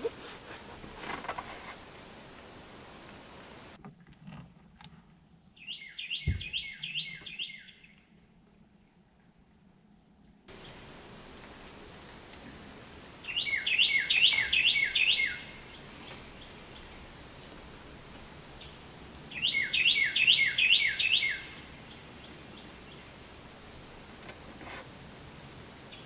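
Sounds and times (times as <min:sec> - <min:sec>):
songbird singing: 0:00.0 - 0:03.8, 0:05.4 - 0:26.0
outdoor background noise: 0:00.0 - 0:26.0.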